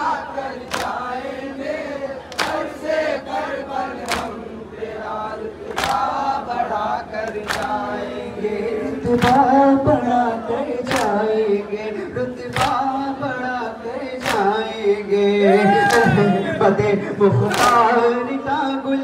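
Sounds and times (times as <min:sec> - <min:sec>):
men chanting a lament: 0:00.0 - 0:19.0.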